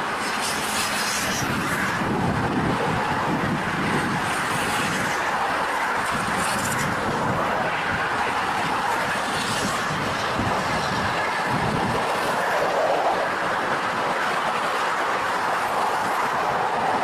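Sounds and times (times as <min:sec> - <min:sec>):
moving vehicle running noise: 0:00.0 - 0:17.0.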